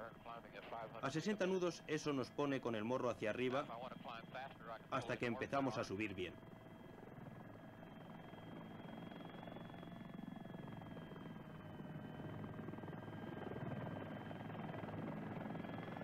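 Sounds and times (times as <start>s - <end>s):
helicopter engine whine: 0.0s - 16.0s.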